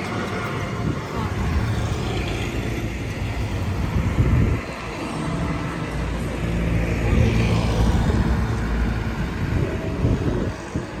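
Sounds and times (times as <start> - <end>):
street traffic noise: 0.0 - 11.0
vehicle engine hum passing: 0.0 - 11.0.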